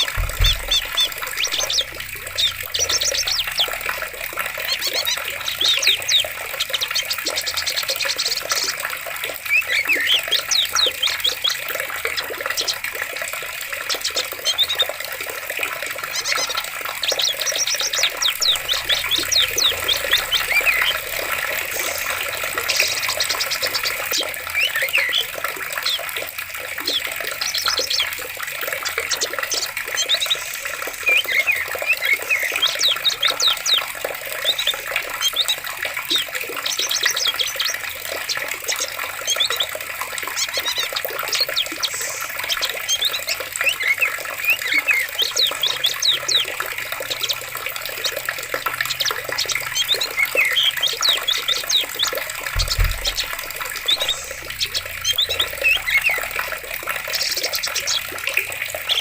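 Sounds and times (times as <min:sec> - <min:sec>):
birds chirping: 0:00.0 - 0:13.0, 0:15.7 - 0:59.0
flowing water: 0:00.0 - 0:59.0.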